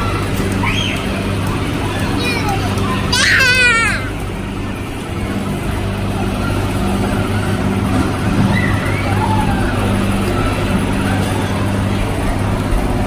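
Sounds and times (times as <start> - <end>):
faint children's voices and squeals: 0.0 - 4.2, 5.8 - 12.1
low mechanical hum: 0.0 - 13.0.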